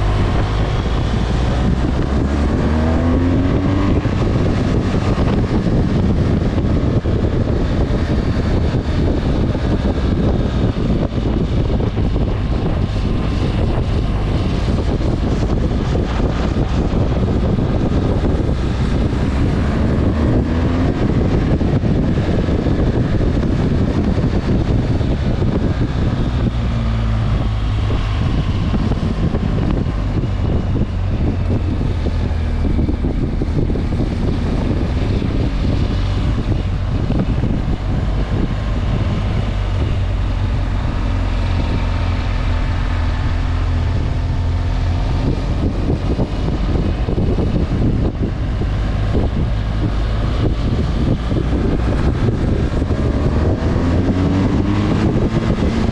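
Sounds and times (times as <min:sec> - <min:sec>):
motorcycle engine running: 0:00.0 - 0:55.9
wind buffeting microphone: 0:00.0 - 0:55.9.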